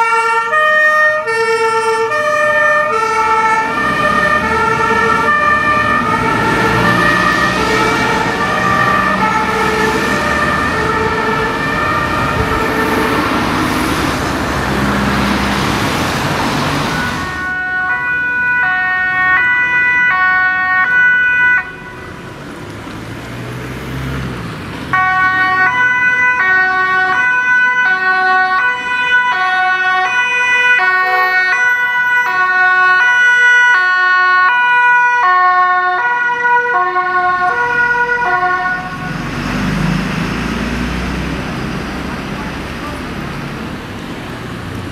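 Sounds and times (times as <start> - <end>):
heavy truck engine and tyres: 0.0 - 44.9
two-tone sirens: 0.0 - 44.9.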